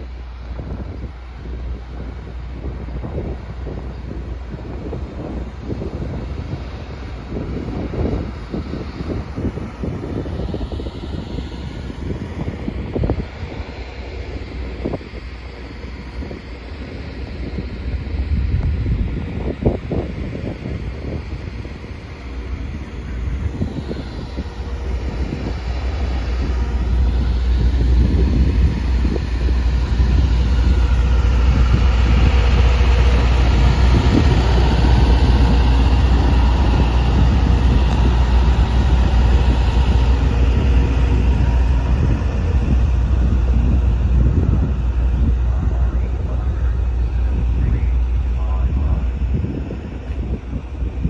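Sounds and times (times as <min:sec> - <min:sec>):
generator droning: 0:00.0 - 0:51.0.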